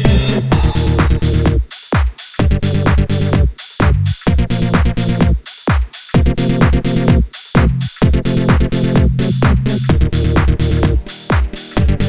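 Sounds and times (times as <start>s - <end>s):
pulsing bass and chords: 0.0s - 1.7s, 2.4s - 5.4s, 6.2s - 12.0s
electronic dance music: 0.0s - 12.0s.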